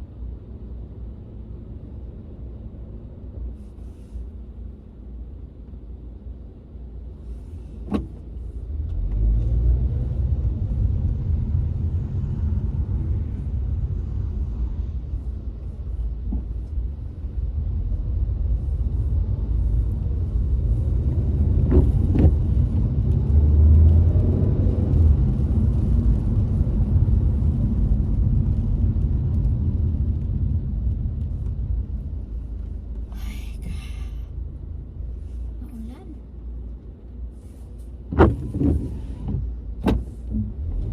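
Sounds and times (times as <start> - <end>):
car road noise rumble: 0.0 - 40.9.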